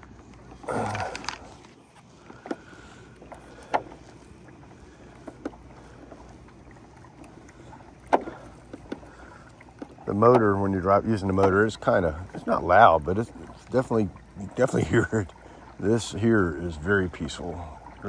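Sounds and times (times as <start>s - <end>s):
water hissing along hull: 0.0s - 18.0s.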